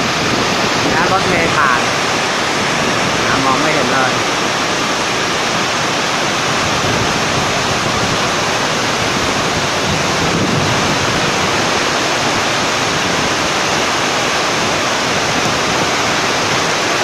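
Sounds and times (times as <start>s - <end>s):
heavy rain pouring: 0.0s - 17.0s
strong wind: 0.0s - 17.0s.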